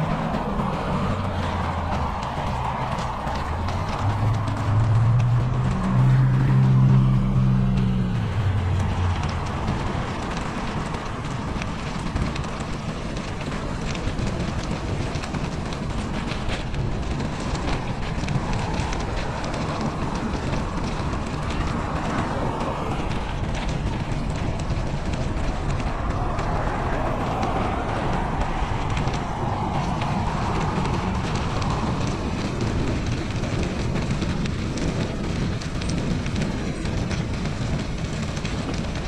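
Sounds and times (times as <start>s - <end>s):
bike tyres rumbling: 0.0s - 39.0s
wind buffeting microphone: 0.0s - 39.0s.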